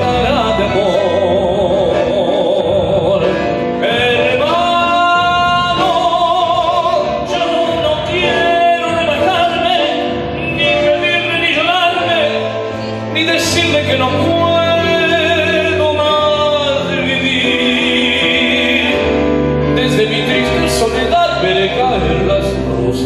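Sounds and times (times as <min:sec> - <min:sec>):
bandoneon: 0:00.0 - 0:23.0
man singing with vibrato: 0:00.0 - 0:23.0
piano: 0:00.0 - 0:23.0.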